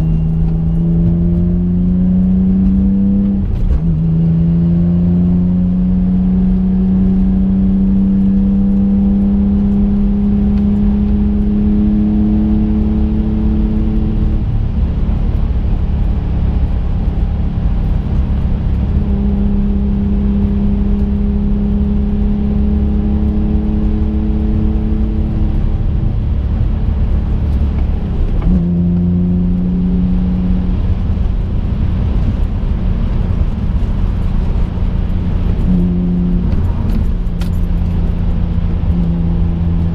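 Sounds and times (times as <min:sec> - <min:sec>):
car engine from inside: 0:00.0 - 0:39.9
road and tyre rumble: 0:00.0 - 0:39.9.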